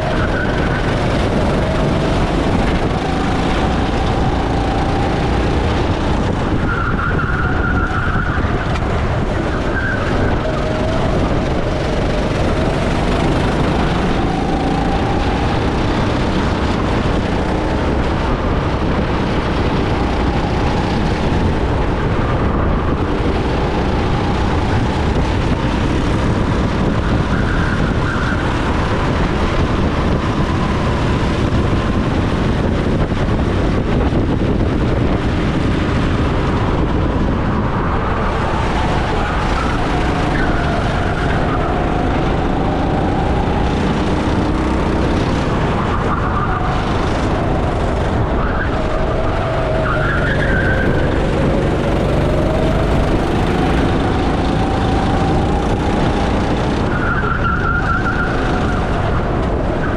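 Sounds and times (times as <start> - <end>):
dense rushing noise: 0.0 - 59.9
go-kart engine: 0.0 - 59.9.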